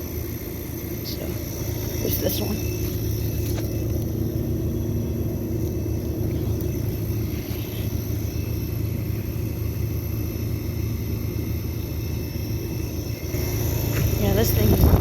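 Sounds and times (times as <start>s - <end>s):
air conditioner compressor hum: 0.0s - 15.0s.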